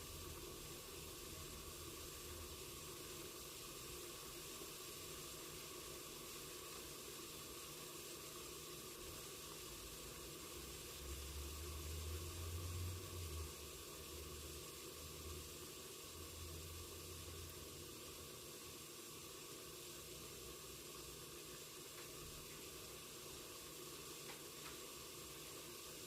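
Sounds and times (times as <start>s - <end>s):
food sizzling under a lid: 0.0s - 26.0s.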